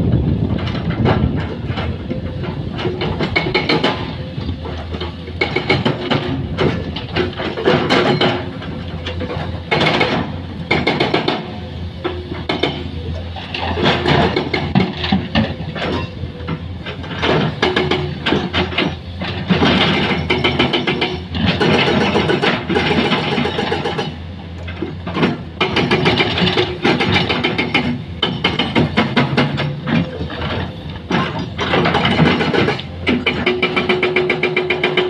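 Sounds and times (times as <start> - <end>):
diesel engine rattling clatter: 0.0 - 35.0.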